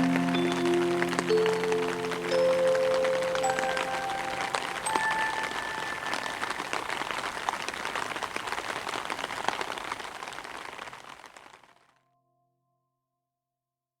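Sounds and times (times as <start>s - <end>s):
rain pattering: 0.0s - 11.8s.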